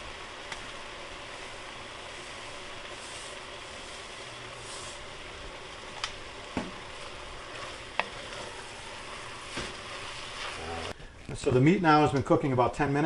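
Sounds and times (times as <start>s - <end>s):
meat sizzling in a pot: 0.0s - 11.0s
wooden spoon stirring: 0.3s - 11.0s.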